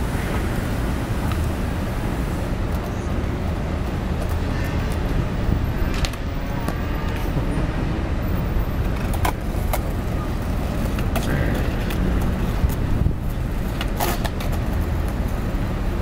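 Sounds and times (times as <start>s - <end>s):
street traffic rumble: 0.0s - 16.0s
skateboards clacking on pavement: 0.1s - 7.5s, 8.4s - 16.0s.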